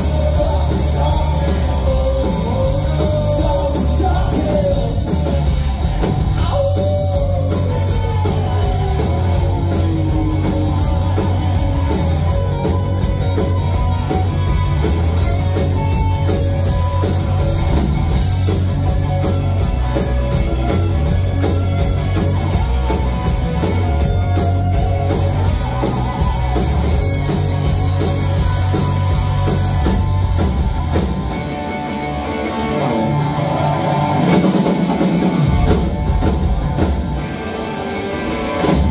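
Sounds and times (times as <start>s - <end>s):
drum kit beat: 0.0s - 31.5s, 34.0s - 37.4s
bass guitar: 0.0s - 38.9s
electric guitars: 0.0s - 38.9s.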